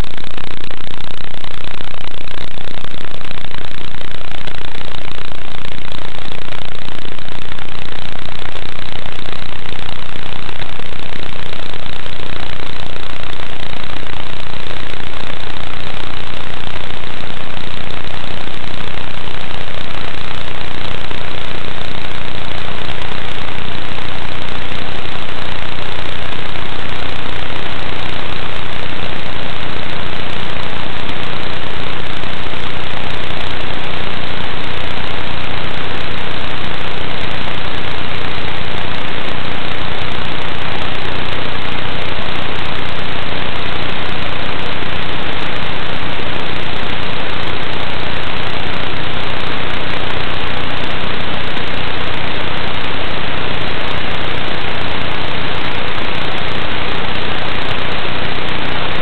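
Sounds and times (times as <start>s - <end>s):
loud static hiss: 0.0s - 59.0s.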